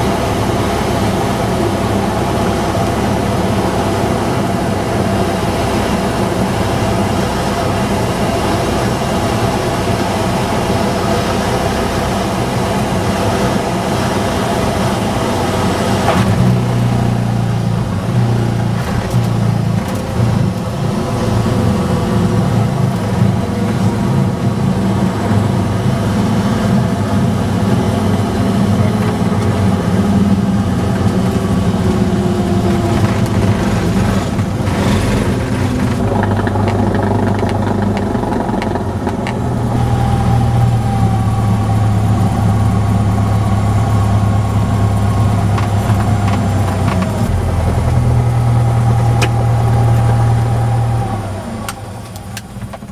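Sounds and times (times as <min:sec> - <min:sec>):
propeller plane engine running: 0:00.0 - 0:52.9.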